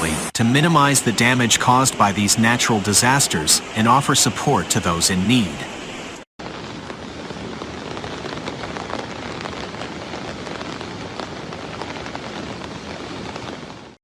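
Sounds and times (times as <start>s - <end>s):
heavy rain: 0.0s - 14.0s
raindrops hitting surfaces: 0.0s - 14.0s.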